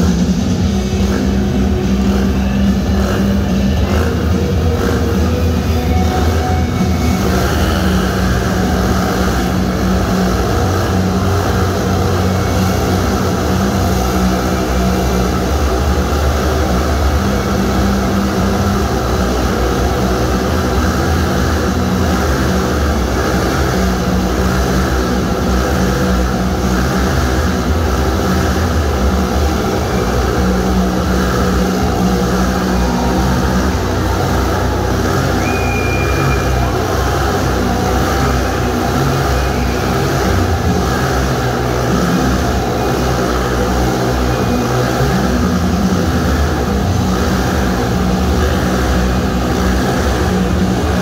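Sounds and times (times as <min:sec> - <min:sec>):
motorcycle engines droning: 0:00.0 - 0:51.0.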